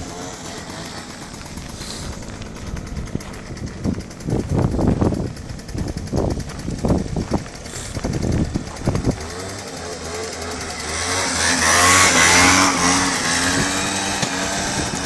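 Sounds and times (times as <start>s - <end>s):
scooter engine at high revs: 0.0s - 15.0s
spinning tyre hiss: 0.0s - 15.0s.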